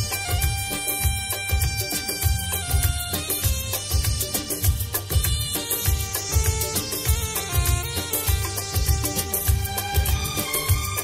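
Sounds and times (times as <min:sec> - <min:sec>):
booming bass-drum beat: 0:00.0 - 0:11.0.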